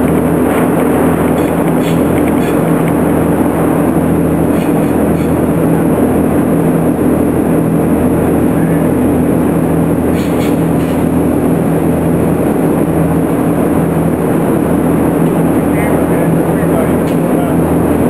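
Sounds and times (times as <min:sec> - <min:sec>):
rush of air: 0:00.0 - 0:15.8.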